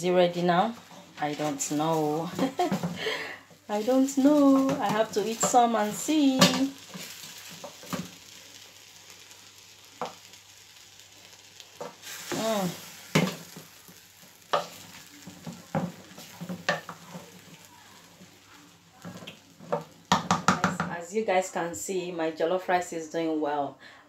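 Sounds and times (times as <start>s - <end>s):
rice sizzling: 0.0s - 23.1s
wooden spoon stirring rice in pot: 0.5s - 10.9s, 11.5s - 20.8s.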